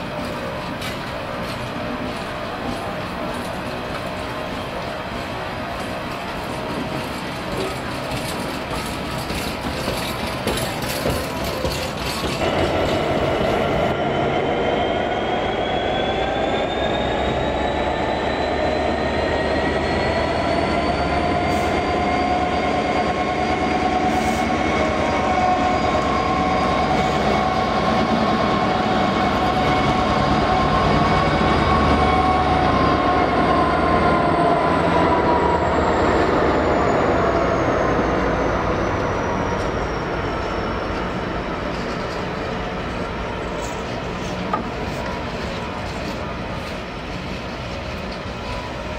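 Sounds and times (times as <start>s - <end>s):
diesel locomotive engine whine: 0.0s - 48.9s
train wagons rolling past: 0.0s - 48.9s.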